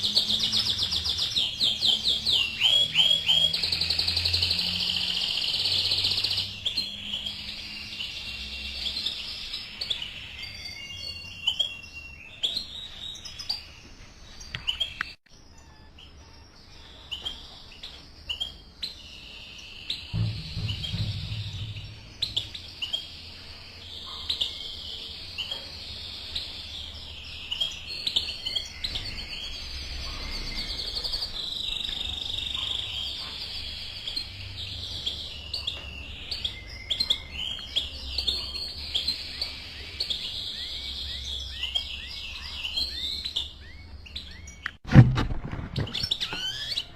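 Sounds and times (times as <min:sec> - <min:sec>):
birds chirping and singing: 0:00.0 - 0:44.8, 0:45.6 - 0:46.9.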